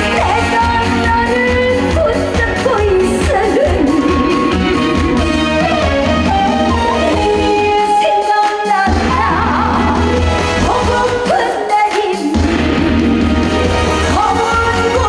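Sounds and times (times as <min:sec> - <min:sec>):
woman singing with vibrato: 0:00.0 - 0:12.9, 0:13.9 - 0:15.0
amplified band accompaniment: 0:00.0 - 0:15.0.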